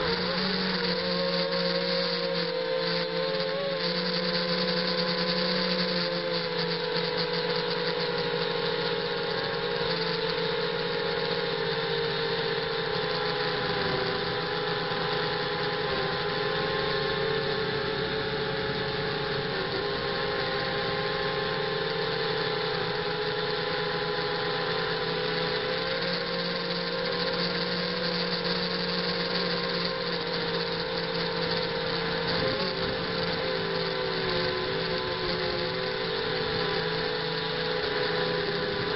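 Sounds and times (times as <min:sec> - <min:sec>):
quadcopter motors and propellers: 0:00.0 - 0:38.9.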